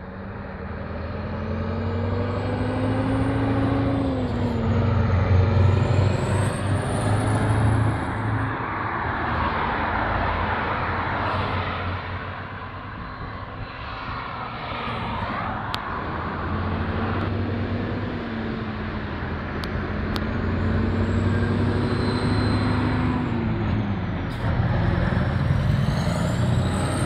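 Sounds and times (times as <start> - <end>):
truck diesel engine passing: 0.0 - 12.4, 14.8 - 27.0.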